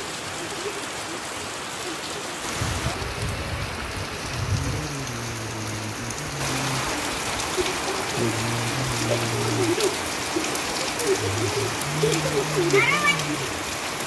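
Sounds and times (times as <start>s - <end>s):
heavy rain on foliage: 0.0s - 14.0s.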